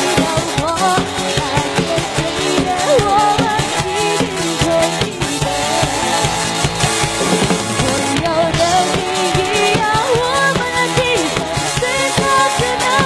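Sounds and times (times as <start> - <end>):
drum kit and cymbals beat: 0.0 - 13.0
live band playing: 0.0 - 13.0.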